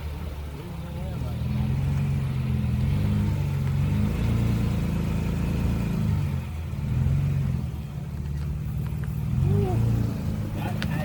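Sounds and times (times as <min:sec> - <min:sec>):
pickup engine revving: 0:00.0 - 0:11.0.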